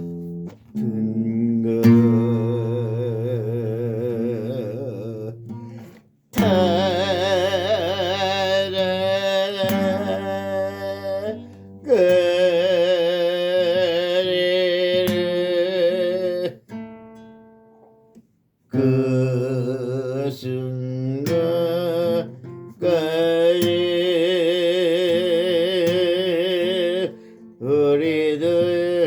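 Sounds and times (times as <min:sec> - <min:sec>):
person singing with vibrato: 0:00.0 - 0:16.6, 0:18.7 - 0:29.0
acoustic guitar: 0:00.0 - 0:29.0.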